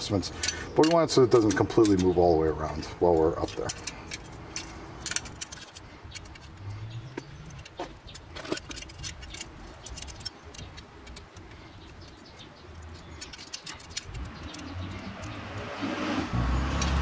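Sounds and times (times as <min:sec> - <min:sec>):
small metal clicks and clinks: 0:00.0 - 0:15.7.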